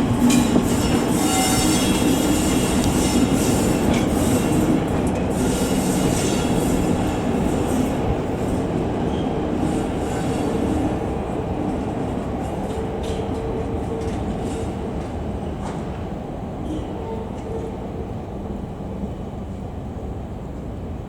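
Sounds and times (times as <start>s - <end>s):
train rolling along track: 0.0s - 21.0s.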